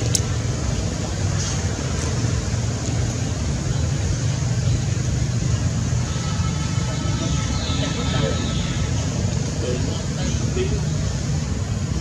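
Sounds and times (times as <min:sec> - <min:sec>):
rumbling outdoor background noise: 0:00.0 - 0:12.0.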